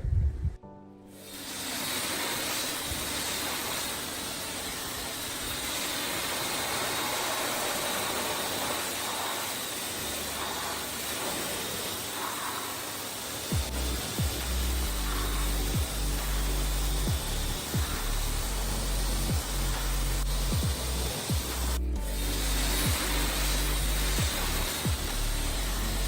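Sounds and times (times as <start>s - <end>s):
hissing spray: 1.1s - 26.0s.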